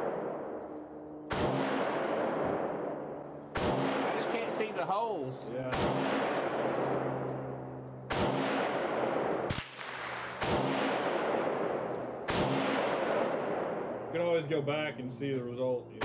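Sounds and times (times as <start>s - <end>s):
echoing rifle shots: 0.0s - 14.3s.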